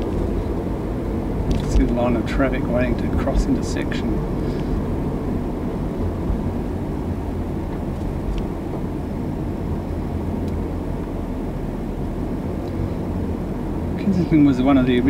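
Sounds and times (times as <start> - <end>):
car engine rumble: 0.0 - 15.0
tyres on road: 0.0 - 15.0.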